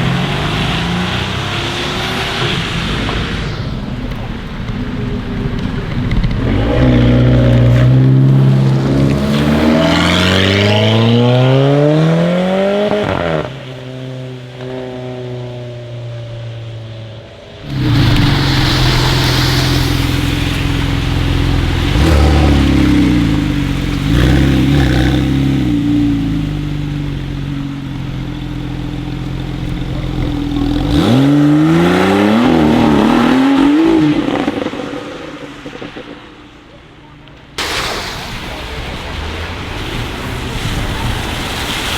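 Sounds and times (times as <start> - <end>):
car engine revving: 0.0 - 15.6, 17.6 - 36.4.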